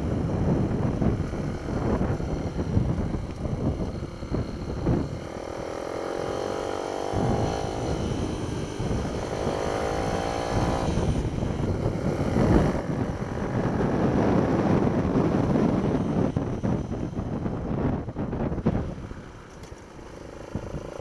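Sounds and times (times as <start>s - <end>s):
minibike engine revving: 0.0s - 21.0s
wind buffeting microphone: 0.0s - 21.0s.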